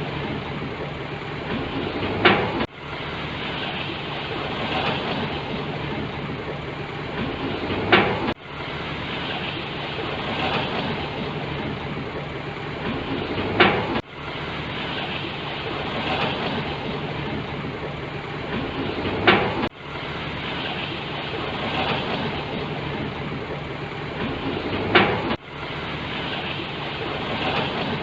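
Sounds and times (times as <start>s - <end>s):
diesel engine of heavy machinery: 0.0s - 28.0s.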